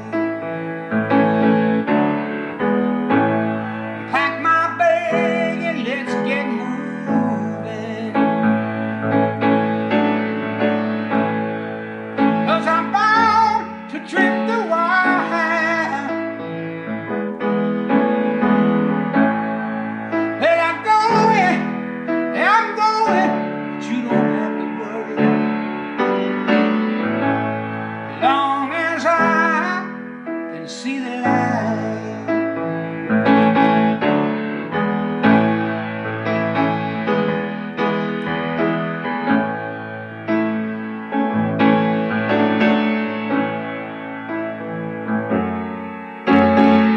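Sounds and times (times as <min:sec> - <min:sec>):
sustained keyboard chords: 0:00.0 - 0:46.9.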